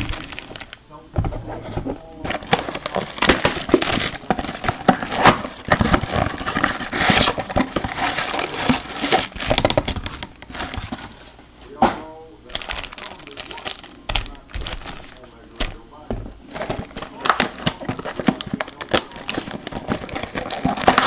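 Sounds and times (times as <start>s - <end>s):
foil wrappers crinkling: 0.0s - 0.8s, 1.4s - 11.5s, 12.5s - 21.0s.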